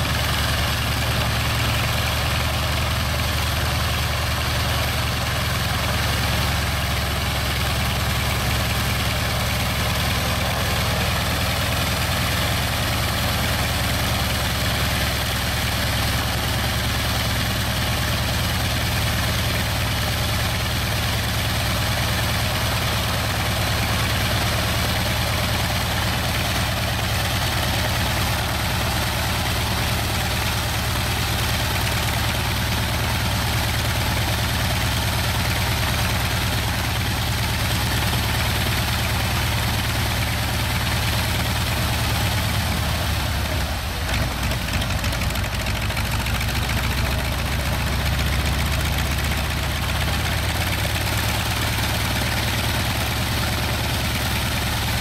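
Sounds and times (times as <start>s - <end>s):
radial engine idling: 0.0s - 55.0s.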